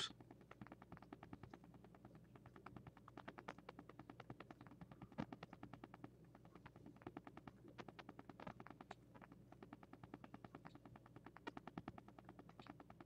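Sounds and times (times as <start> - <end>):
faint rapid ticking: 0.0 - 13.0.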